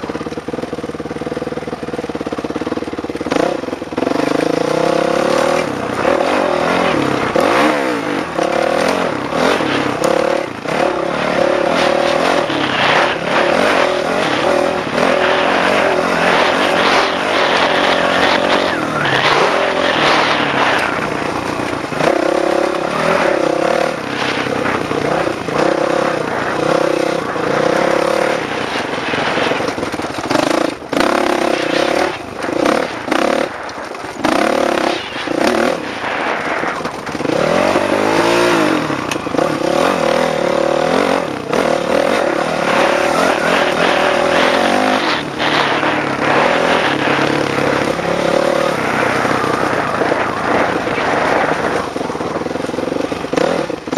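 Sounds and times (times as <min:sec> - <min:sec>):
dirt bike engine revving: 0:00.0 - 0:53.9
rushing noise: 0:03.3 - 0:53.9.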